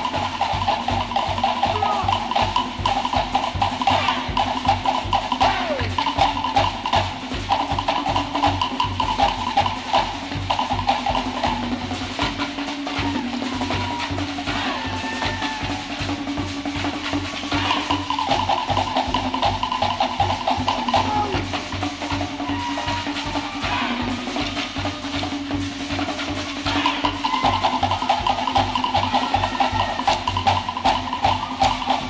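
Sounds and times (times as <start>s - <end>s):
deeper drum beats: 0.0s - 32.0s.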